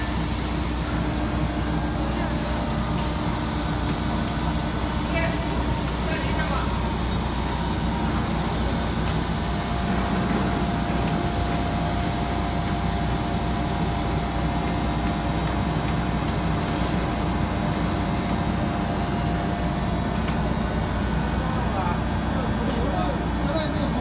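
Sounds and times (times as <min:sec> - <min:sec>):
machine low mechanical drone: 0:00.0 - 0:24.0.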